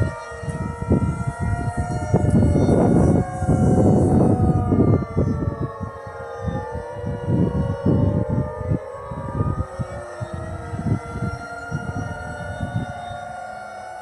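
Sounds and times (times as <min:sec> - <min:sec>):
warning sirens wailing: 0:00.0 - 0:14.0.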